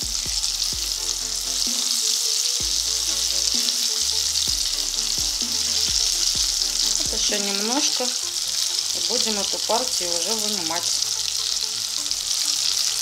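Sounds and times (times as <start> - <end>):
oil sizzling while deep-frying: 0.0 - 13.0.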